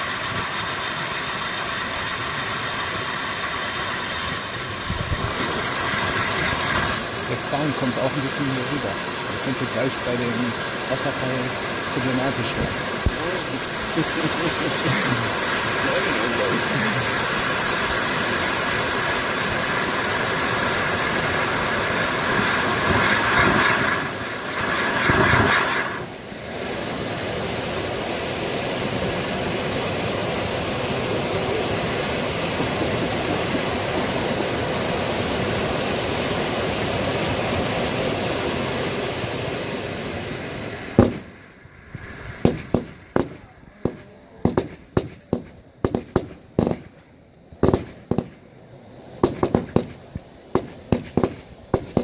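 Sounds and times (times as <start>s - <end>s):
firework bangs and crackles: 0.0s - 52.0s
fountain firework hissing sparks: 0.0s - 52.0s.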